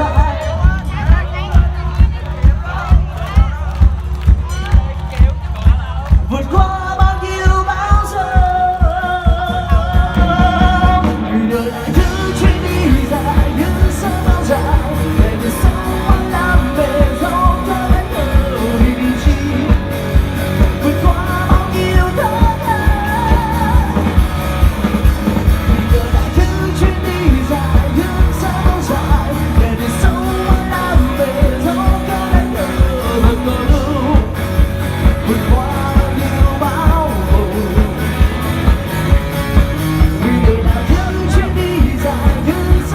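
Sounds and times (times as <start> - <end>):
drums keeping a beat: 0.0 - 42.9
rock band playing: 0.0 - 42.9
person singing: 5.7 - 39.2, 40.0 - 42.9.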